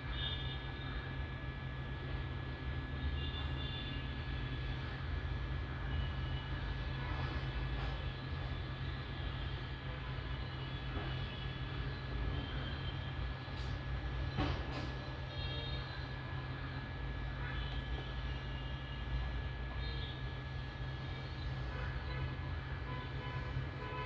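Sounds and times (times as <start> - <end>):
thin steady whine: 0.0 - 24.0.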